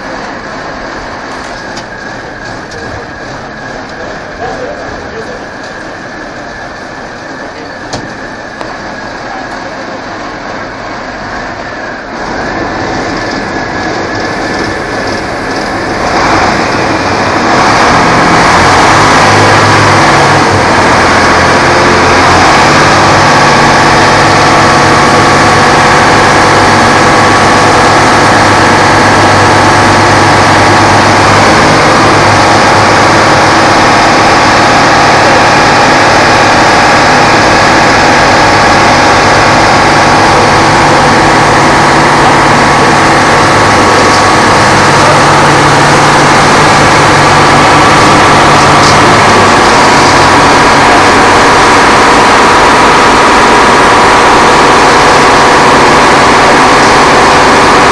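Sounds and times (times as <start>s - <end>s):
fire engine diesel revving: 0.0s - 57.9s
water jet rushing: 10.0s - 57.9s.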